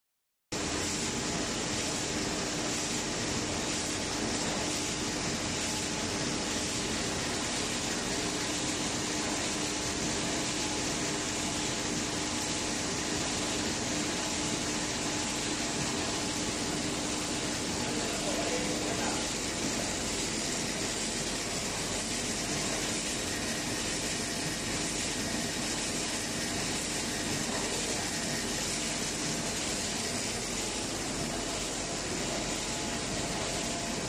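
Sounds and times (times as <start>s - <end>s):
machine whirring and humming: 0.6s - 34.0s.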